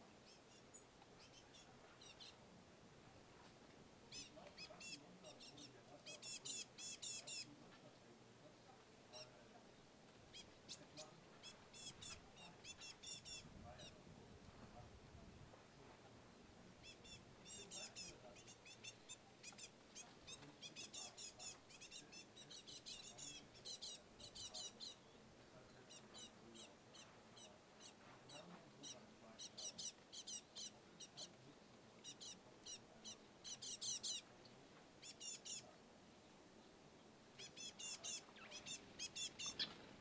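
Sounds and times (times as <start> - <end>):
songbirds twittering: 0.0 - 40.0.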